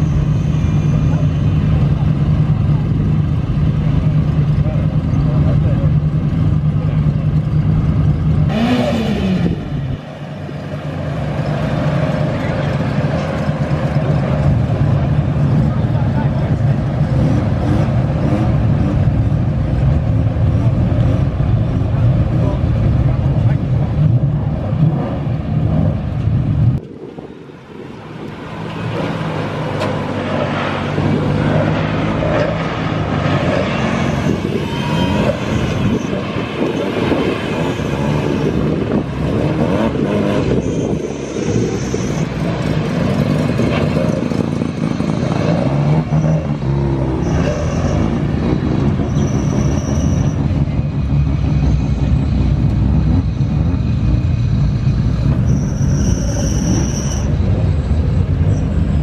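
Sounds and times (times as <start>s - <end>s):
car engines idling and revving: 0.0s - 59.0s.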